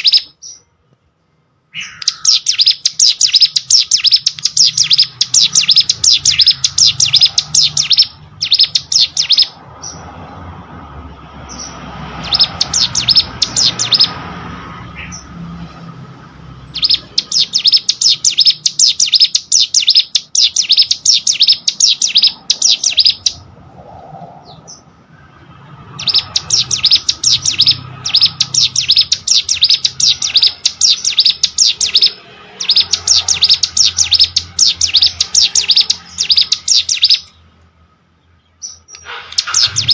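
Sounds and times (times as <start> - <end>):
bird high-pitched chirping: 0.0 - 0.7, 1.7 - 10.2, 11.2 - 23.8, 24.4 - 39.9.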